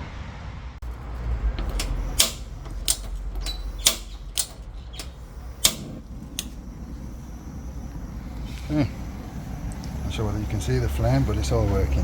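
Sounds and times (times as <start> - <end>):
gas stove igniter clicking: 0.8 - 12.0.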